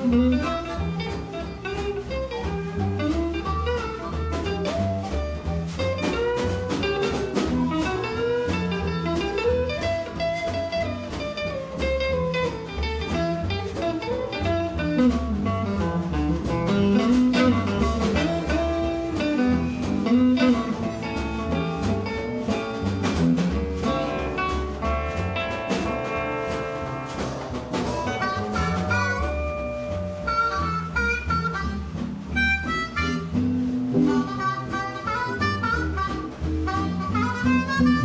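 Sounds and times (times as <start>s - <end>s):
acoustic blues band playing: 0.0s - 38.0s
sliding lead melody: 0.0s - 38.0s.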